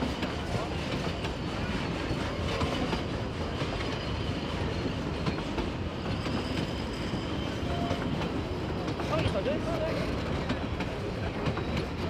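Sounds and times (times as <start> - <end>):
steel wheels clicking over rails: 0.0 - 12.0
train carriages rolling past: 0.0 - 12.0.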